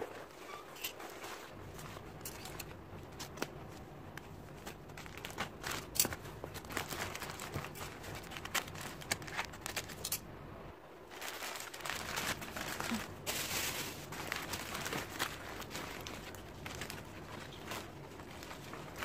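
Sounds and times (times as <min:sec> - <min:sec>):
plastic wrap crinkling: 0:00.0 - 0:10.1, 0:11.0 - 0:19.0.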